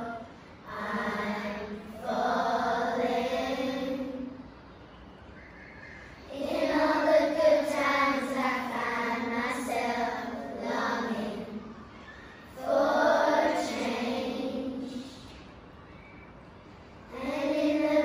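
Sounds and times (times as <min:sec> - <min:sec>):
children's choir singing: 0:00.0 - 0:04.6, 0:05.4 - 0:15.5, 0:17.1 - 0:18.0.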